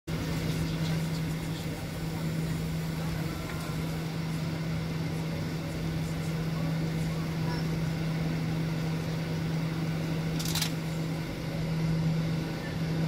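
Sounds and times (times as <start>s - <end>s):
jet engines humming in cabin: 0.1s - 13.0s.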